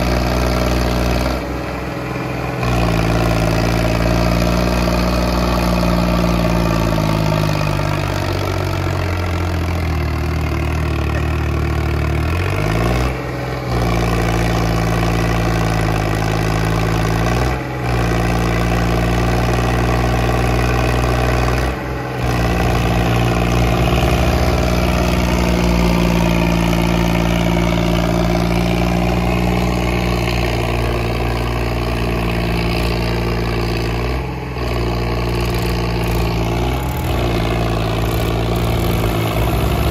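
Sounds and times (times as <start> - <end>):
diesel tractor engines labouring: 0.0 - 39.9.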